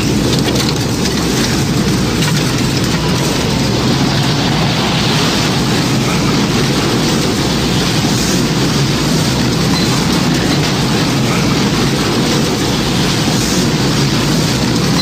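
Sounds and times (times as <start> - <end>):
waves around a ship: 0.0 - 15.0
wind: 0.0 - 15.0.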